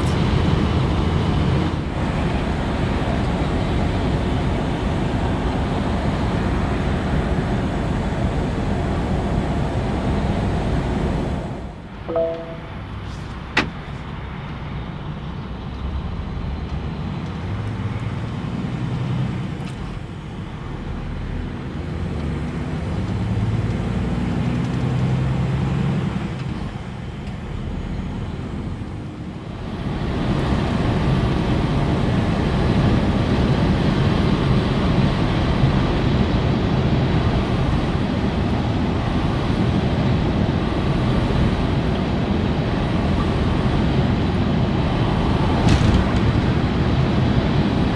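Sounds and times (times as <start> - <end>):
road noise: 0.0 - 47.9
truck engine drone: 0.0 - 47.9.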